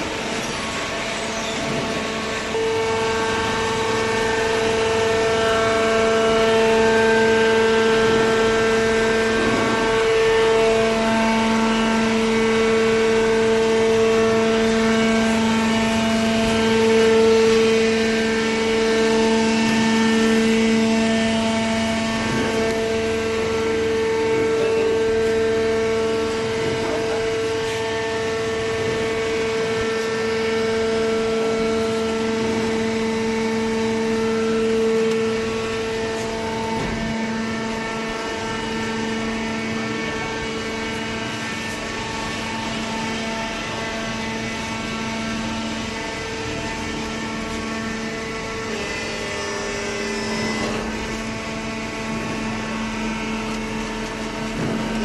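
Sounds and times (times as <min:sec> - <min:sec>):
hydraulic pump humming whine: 0:00.0 - 0:55.0.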